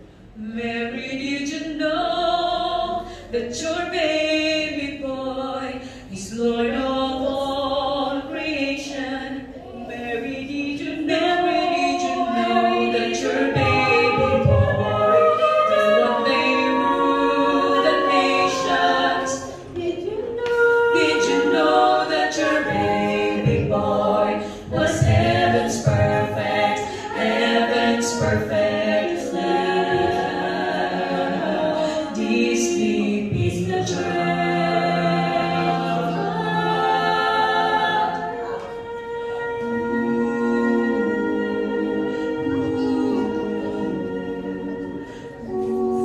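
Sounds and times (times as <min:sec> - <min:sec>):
female vocal quartet singing: 0:00.0 - 0:46.0.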